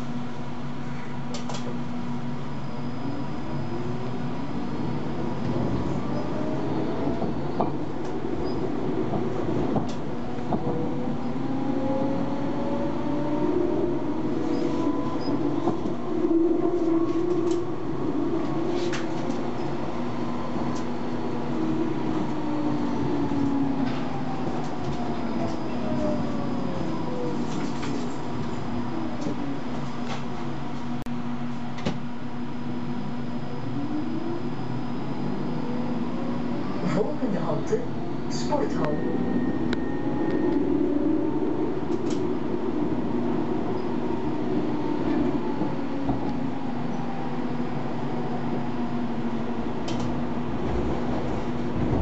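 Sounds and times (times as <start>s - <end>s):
tram motor whine: 0.0s - 52.0s
tram running along track: 0.0s - 52.0s.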